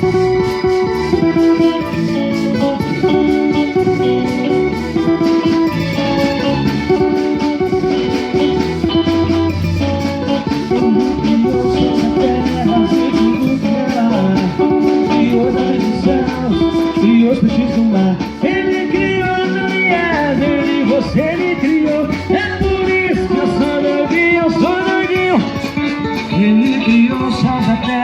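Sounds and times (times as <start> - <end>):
guitar: 0.0 - 28.0
live gospel band playing: 0.0 - 28.0.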